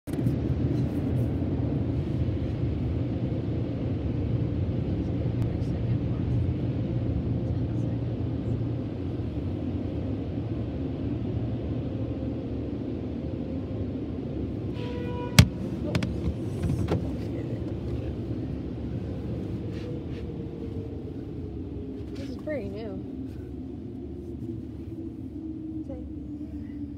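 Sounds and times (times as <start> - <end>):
low rumble of car and machinery: 0.1 - 26.9.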